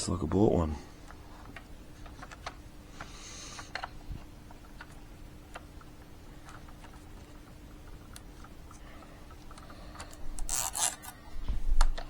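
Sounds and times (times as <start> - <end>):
faint steady hum: 0.0 - 12.0
small parts clicking and tapping: 1.0 - 11.2.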